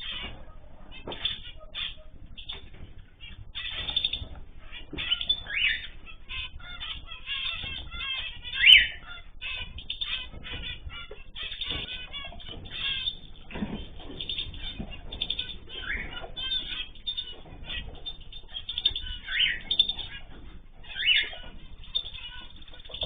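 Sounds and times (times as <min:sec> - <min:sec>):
cage birds chirping: 0:00.0 - 0:23.0.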